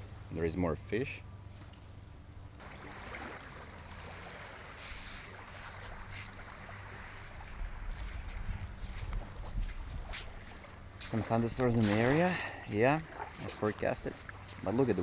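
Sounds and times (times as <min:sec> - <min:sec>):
low hum: 0:00.0 - 0:14.7
small waves washing on beach: 0:02.6 - 0:15.0.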